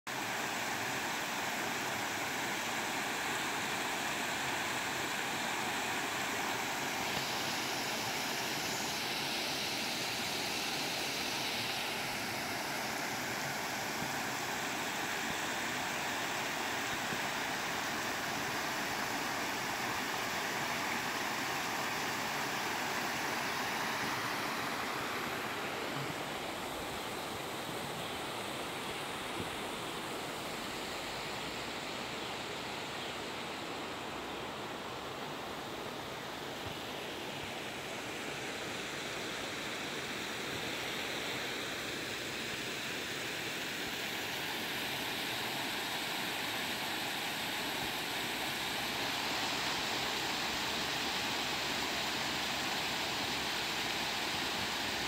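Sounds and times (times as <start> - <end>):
river water rushing over rocks: 0.1 - 55.0.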